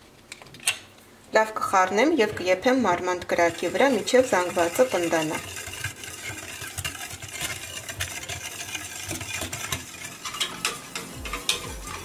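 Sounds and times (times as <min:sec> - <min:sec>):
wire whisk scraping a metal pan: 0:02.1 - 0:12.0.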